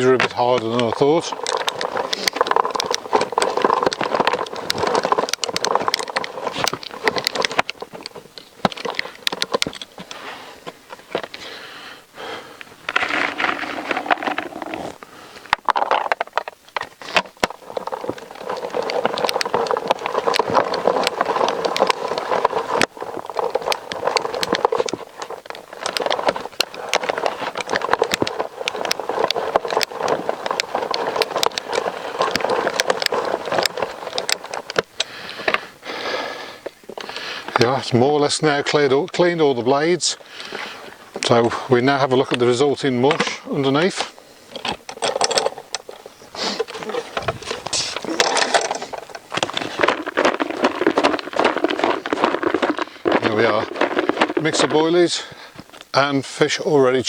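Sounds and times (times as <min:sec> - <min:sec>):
blades grinding and cracking bait: 0:00.0 - 0:57.0.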